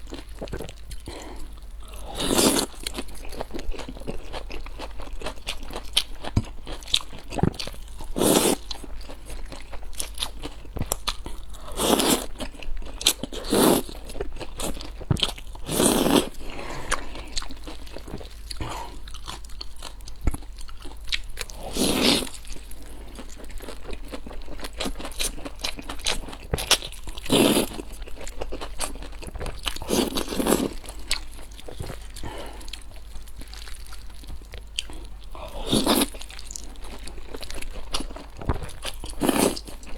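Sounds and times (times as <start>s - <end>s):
close chewing: 0.0s - 39.9s.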